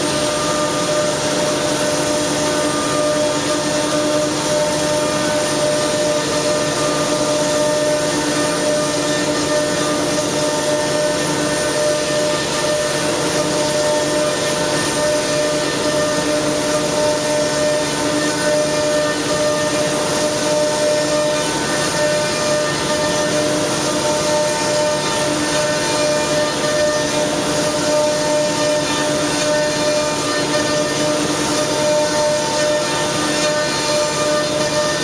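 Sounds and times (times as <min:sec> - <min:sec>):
machine cutting wood: 0:00.0 - 0:35.0
router spindle whine: 0:00.0 - 0:35.0.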